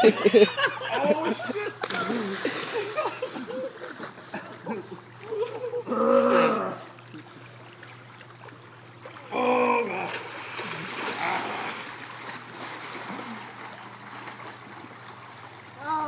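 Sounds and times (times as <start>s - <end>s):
water splashing in pool: 1.8s - 16.0s.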